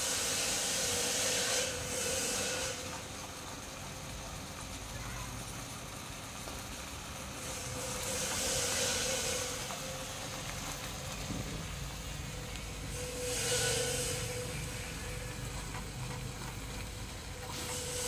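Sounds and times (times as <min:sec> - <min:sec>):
fish deep-frying in oil: 0:00.0 - 0:18.0
oil bubbling and sizzling: 0:00.0 - 0:18.0.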